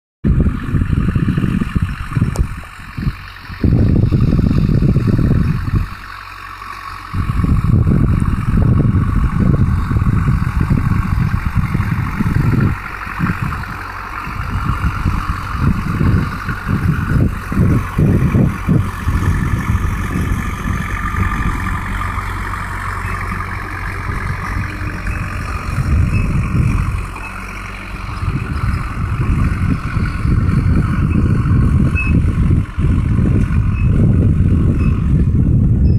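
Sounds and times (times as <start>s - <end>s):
tractor diesel engine running: 0.2s - 35.9s
wind rumbling on microphone: 0.2s - 35.9s.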